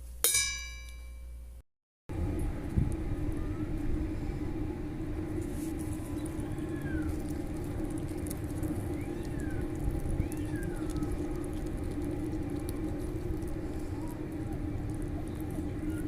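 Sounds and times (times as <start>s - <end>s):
low background rumble: 2.1s - 16.0s.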